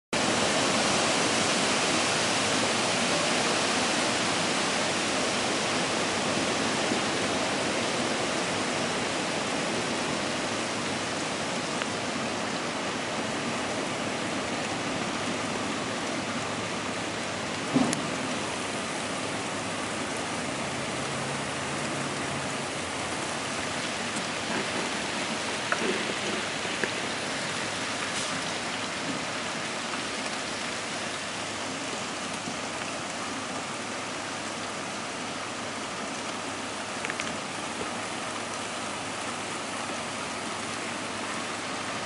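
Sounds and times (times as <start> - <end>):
steady rain falling: 0.2 - 42.0.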